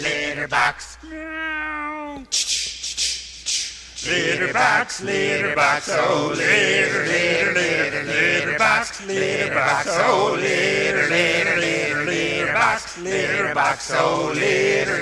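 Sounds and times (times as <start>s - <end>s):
male vocal quartet singing: 0.0s - 1.5s, 2.2s - 15.0s.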